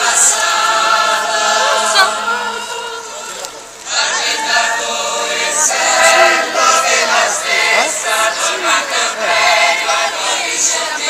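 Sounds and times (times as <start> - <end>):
chorus singing: 0.0 - 11.0.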